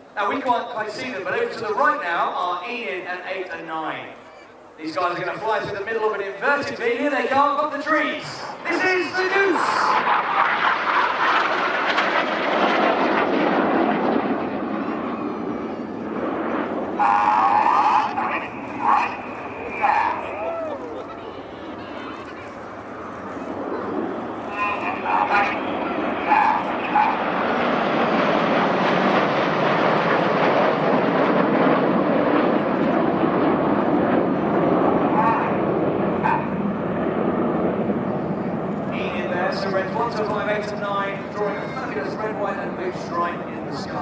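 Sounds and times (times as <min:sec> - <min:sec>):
jets flying past low: 0:02.6 - 0:44.0.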